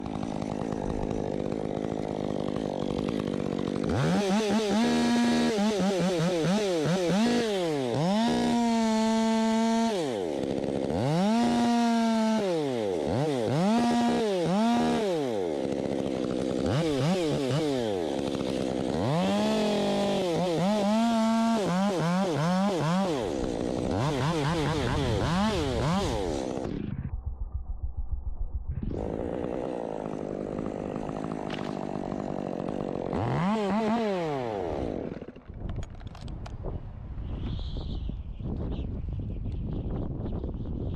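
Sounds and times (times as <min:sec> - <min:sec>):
chainsaw engine revving: 0:00.0 - 0:26.9, 0:28.9 - 0:36.3.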